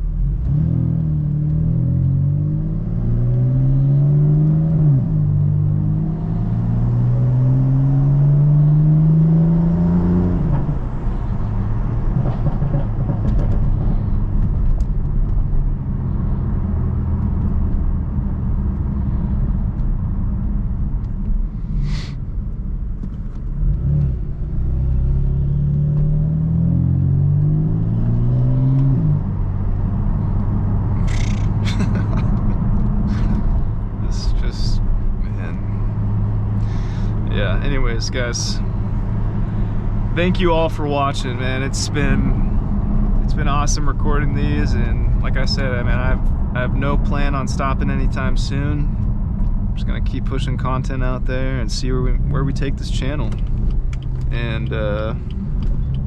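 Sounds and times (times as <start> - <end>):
road noise: 0.0 - 56.0
car engine accelerating through gears: 0.1 - 56.0.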